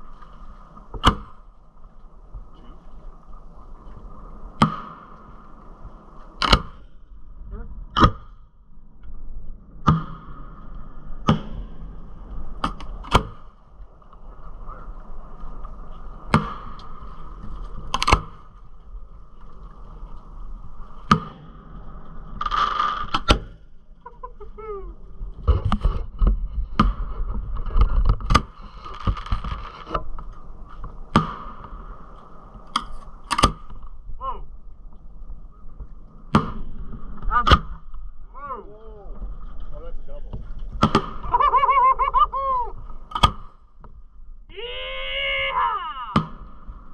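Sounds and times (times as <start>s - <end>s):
hissing crackle: 0.0s - 46.9s.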